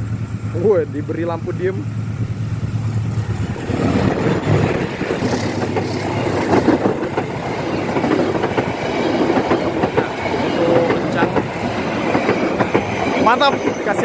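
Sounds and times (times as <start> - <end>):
train wheels clattering on rails: 2.0 - 14.0.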